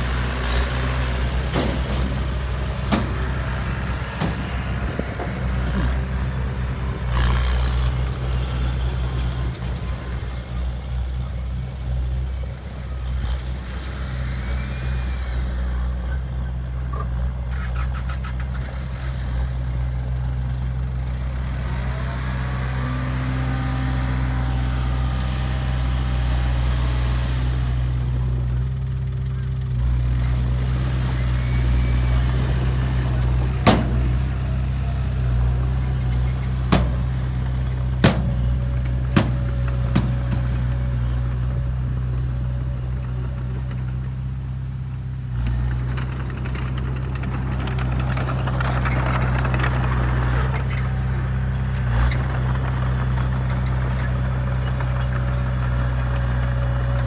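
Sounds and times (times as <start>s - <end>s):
heavy diesel engine running: 0.0s - 16.6s, 17.2s - 57.0s.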